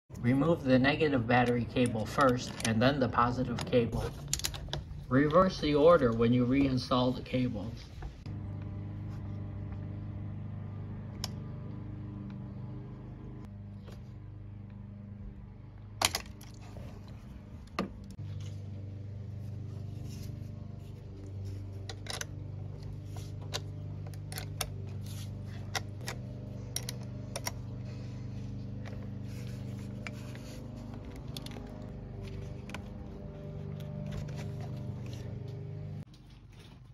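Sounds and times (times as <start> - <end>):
low steady hum: 0.1 - 36.9.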